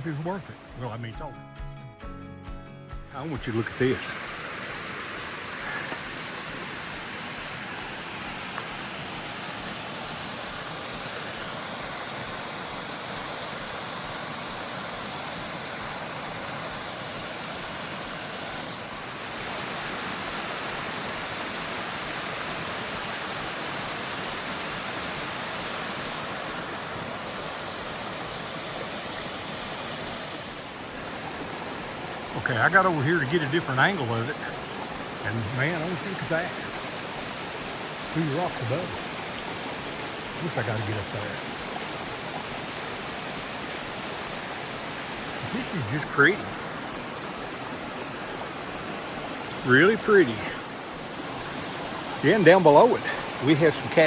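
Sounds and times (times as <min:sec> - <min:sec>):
water rushing over rocks: 0:03.2 - 0:54.0.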